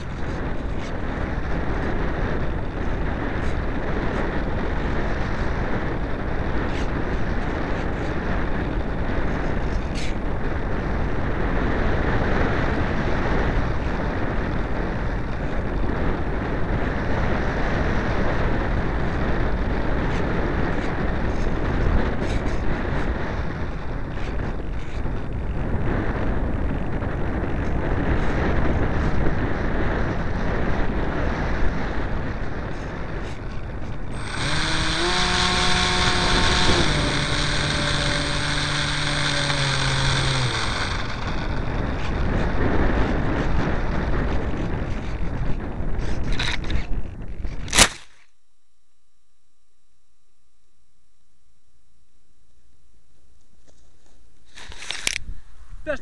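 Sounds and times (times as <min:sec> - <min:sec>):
model plane motor: 0:00.0 - 0:46.9, 0:54.5 - 0:55.2.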